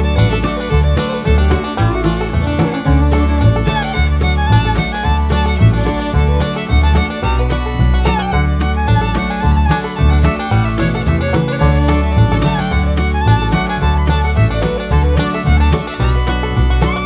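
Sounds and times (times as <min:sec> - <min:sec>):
guitar: 0:00.0 - 0:17.0
steady bass beat: 0:00.0 - 0:17.0
upbeat fiddle tune: 0:00.0 - 0:17.0.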